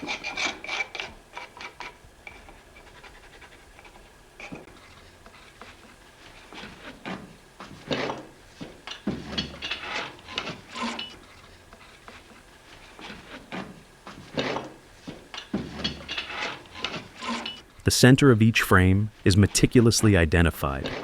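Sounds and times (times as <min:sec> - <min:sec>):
wood rubbing and scraping on wood: 0:00.0 - 0:17.7, 0:19.2 - 0:21.0.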